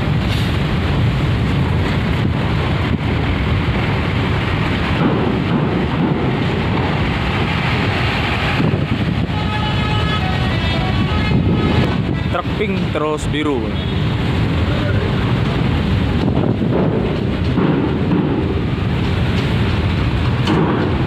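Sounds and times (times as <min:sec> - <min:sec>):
bus diesel engine rumble: 0:00.0 - 0:21.0
wind buffeting microphone: 0:00.0 - 0:21.0.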